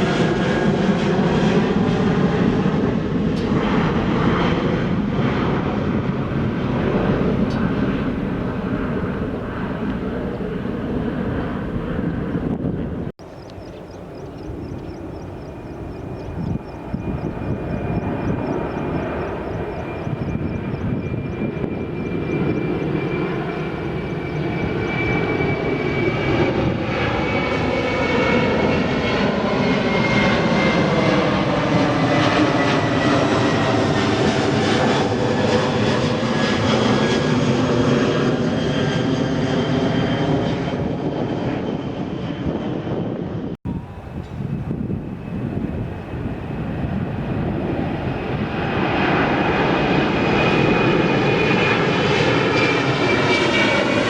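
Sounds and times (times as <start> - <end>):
jet airliner engine noise: 0.0 - 54.0.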